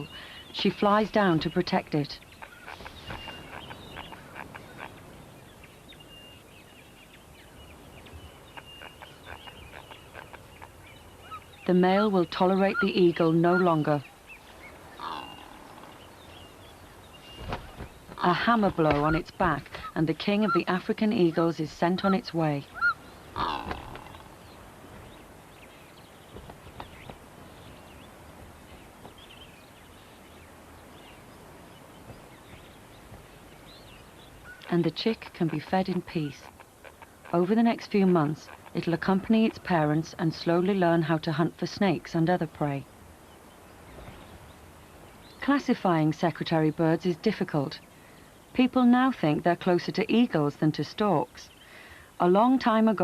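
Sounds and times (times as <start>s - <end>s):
small birds chirping: 0.0s - 53.0s
steady outdoor hiss: 0.0s - 53.0s.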